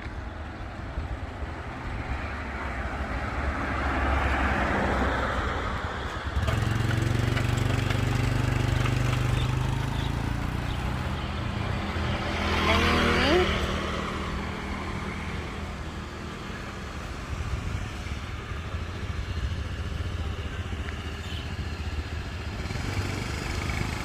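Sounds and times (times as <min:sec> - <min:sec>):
vehicle passing: 0:01.8 - 0:24.0.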